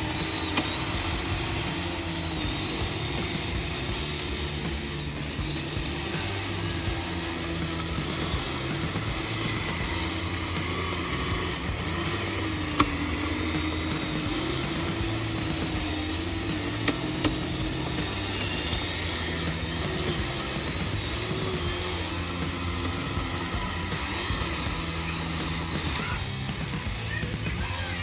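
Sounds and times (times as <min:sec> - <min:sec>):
electric motor and hydraulic pump whine: 0:00.0 - 0:28.0.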